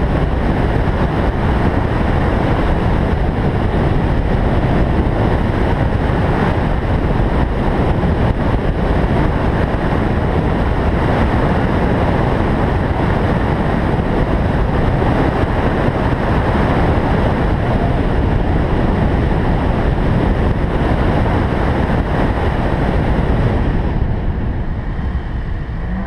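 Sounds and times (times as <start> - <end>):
car engine: 0.0 - 26.0
wind buffeting microphone: 0.0 - 26.0.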